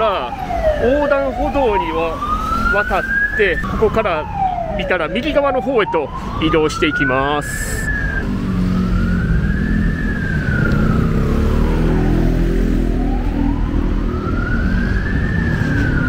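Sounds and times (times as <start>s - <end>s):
ambulance siren wailing: 0.0s - 16.0s
low road rumble: 0.0s - 16.0s.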